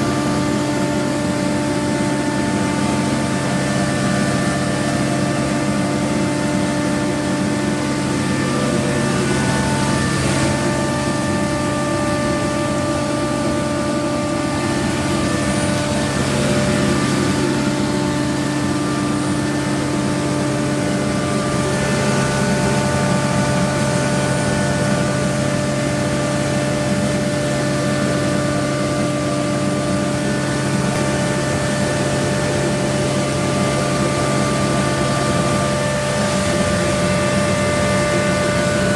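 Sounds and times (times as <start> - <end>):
constant whine: 0.0 - 38.9
street sweeper engine and blower: 0.0 - 38.9.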